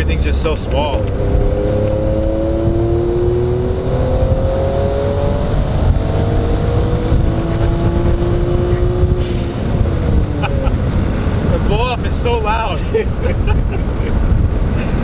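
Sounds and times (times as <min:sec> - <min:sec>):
car engine accelerating: 0:00.0 - 0:12.3.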